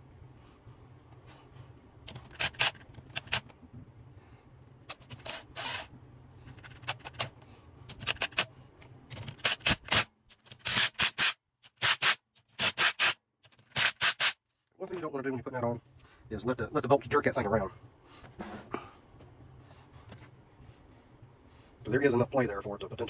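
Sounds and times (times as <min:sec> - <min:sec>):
low steady hum: 0:00.0 - 0:13.8, 0:14.4 - 0:23.0.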